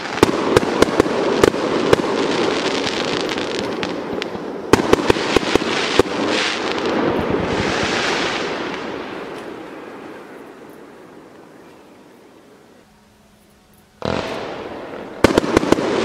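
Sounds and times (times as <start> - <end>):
fireworks bangs and crackles: 0.0 - 11.6, 14.0 - 16.0
hissing sparkling firework burst: 0.0 - 16.0.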